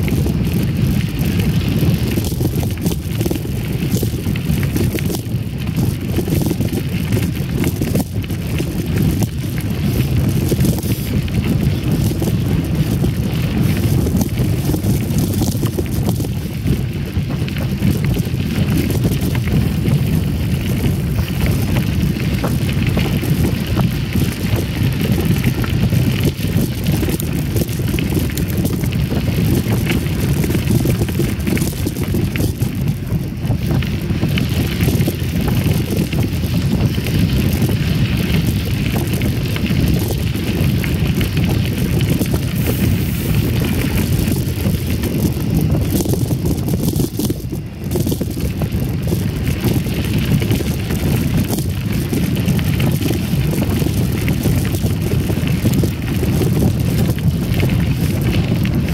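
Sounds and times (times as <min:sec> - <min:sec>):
bike rattles: 0:00.0 - 0:58.9
wind noise on microphone: 0:00.0 - 0:58.9
tyres rolling over gravel: 0:00.1 - 0:58.9.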